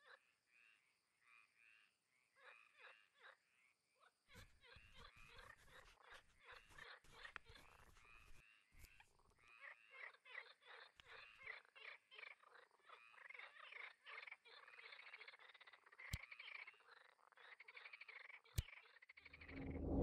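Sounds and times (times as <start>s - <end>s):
frogs croaking: 0.0s - 19.5s.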